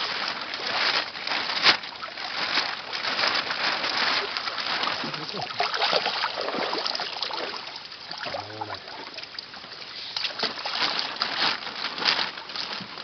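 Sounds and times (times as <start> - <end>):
water splashing in a tub: 0.0 - 13.0.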